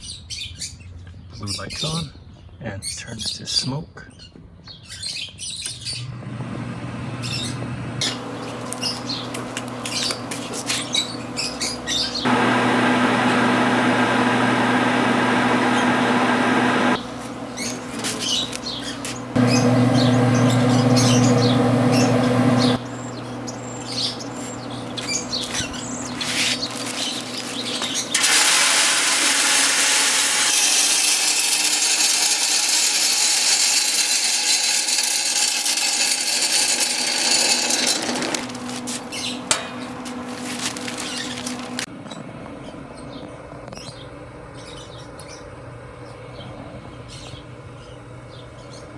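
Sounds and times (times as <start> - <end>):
grill fan motor hum: 5.8 - 48.9.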